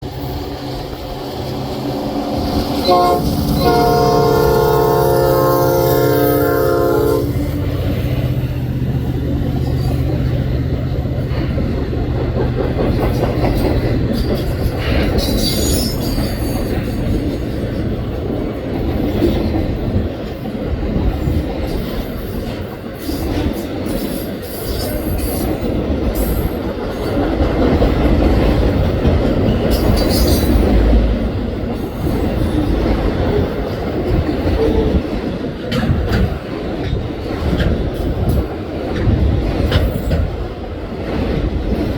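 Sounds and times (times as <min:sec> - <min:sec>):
sharp clicks from train wheels: 0:00.0 - 0:05.3, 0:05.9 - 0:41.9
diesel locomotive engine drone: 0:00.0 - 0:41.9
rumble of passing train cars: 0:00.0 - 0:41.9.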